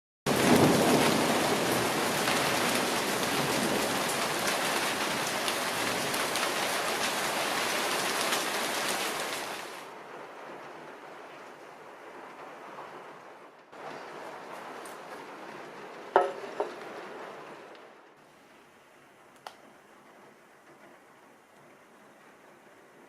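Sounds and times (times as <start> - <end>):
heavy rain pouring: 0.3 - 23.0.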